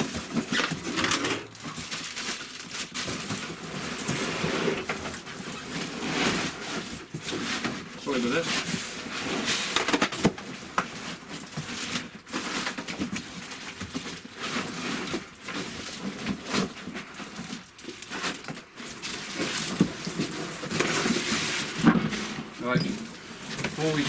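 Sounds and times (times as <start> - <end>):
cardboard and packing rustling: 0.0 - 24.0.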